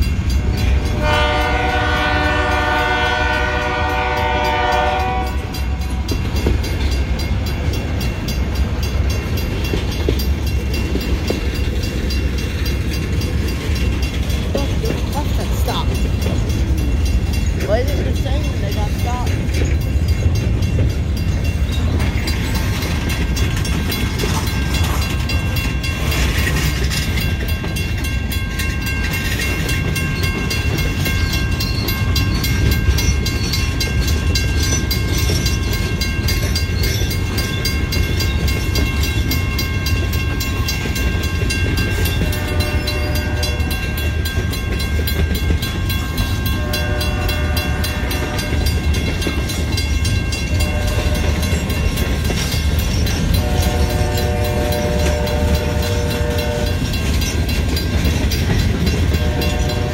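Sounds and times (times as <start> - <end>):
crossing bell ringing: 0.0 - 59.9
train wheels rumbling on rails: 0.0 - 59.9.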